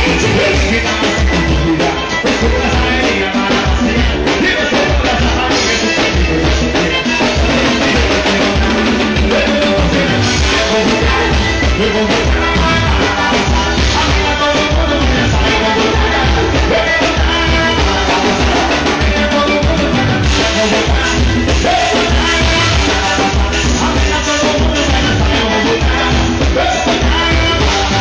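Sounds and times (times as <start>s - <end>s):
drum kit steady beat: 0.0s - 28.0s
electric guitar: 0.0s - 28.0s
live band music: 0.0s - 28.0s.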